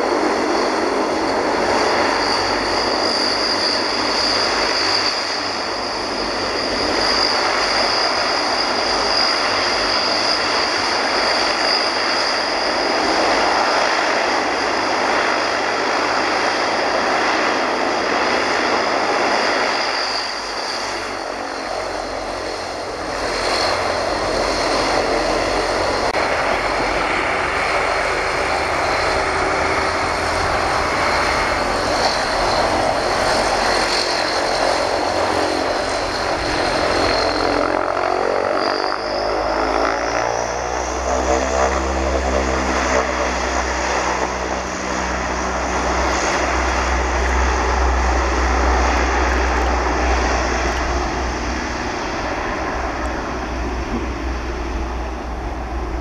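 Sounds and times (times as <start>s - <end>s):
high turbine whine: 0.0s - 56.0s
propeller drone: 0.0s - 56.0s.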